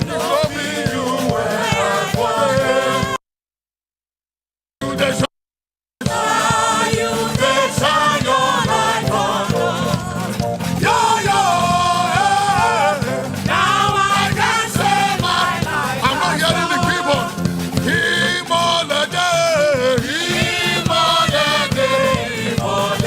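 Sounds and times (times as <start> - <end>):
band playing steady beat: 0.0 - 3.2, 6.0 - 23.0
voices singing gospel: 0.0 - 3.2, 4.8 - 5.3, 6.0 - 23.0.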